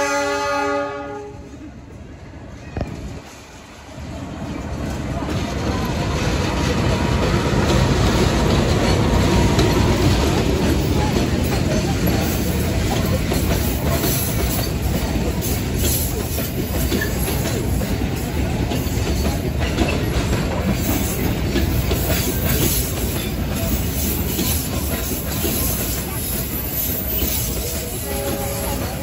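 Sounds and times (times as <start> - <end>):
train wheels rumbling on rails: 0.0 - 29.0
rail clicks: 1.4 - 29.0.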